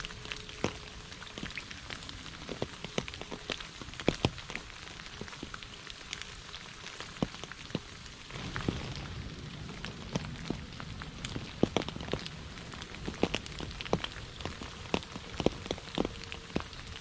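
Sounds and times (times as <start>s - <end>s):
rain hissing: 0.0s - 17.0s
raindrops ticking on a surface: 0.0s - 17.0s.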